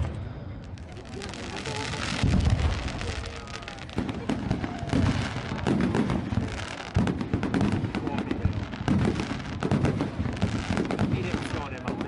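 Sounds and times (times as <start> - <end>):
firework crackling: 0.0 - 12.0
firework shells booming: 0.0 - 12.0.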